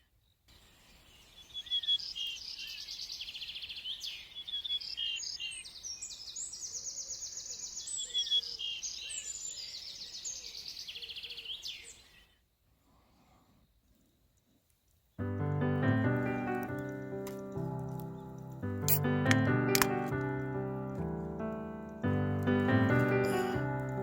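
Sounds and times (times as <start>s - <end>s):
small birds trilling and chirping: 0.0s - 15.3s, 16.1s - 18.7s, 19.7s - 24.0s.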